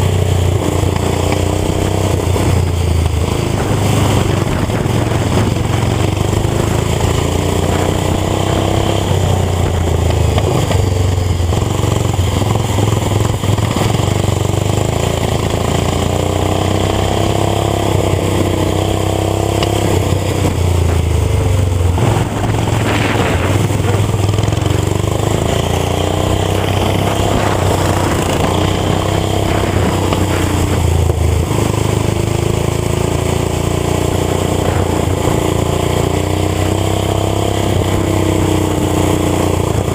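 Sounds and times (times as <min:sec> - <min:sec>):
lawn tractor engine revving: 0:00.0 - 0:39.9.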